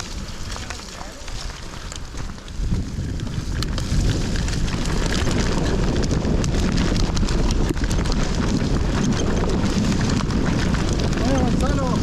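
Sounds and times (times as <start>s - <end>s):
bike rattling clicks and knocks: 0.0s - 12.0s
tyres rumbling on dirt: 0.0s - 12.0s
wind buffeting microphone: 0.0s - 12.0s.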